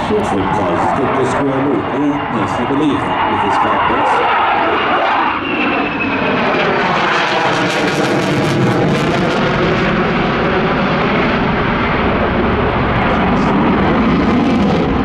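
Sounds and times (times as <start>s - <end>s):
high whine falling in pitch: 0.0s - 15.0s
jet engines roaring: 0.0s - 15.0s.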